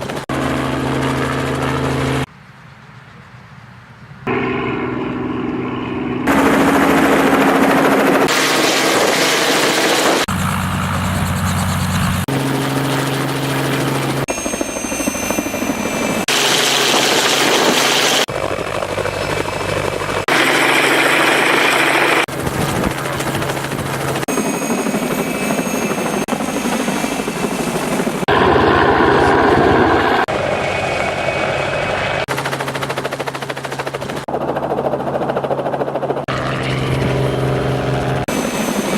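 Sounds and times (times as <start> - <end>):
helicopter rotor and engine hum: 0.0 - 2.3, 3.0 - 38.9.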